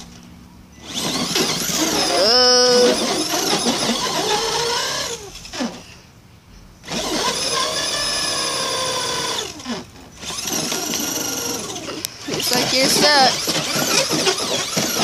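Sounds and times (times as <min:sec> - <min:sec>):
electric motor whining: 0:00.0 - 0:06.0, 0:06.8 - 0:15.0.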